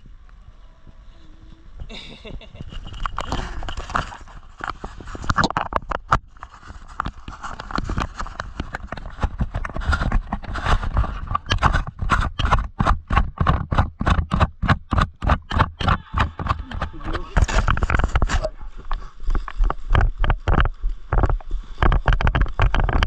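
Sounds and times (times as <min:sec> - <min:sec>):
footsteps: 0:00.0 - 0:23.0.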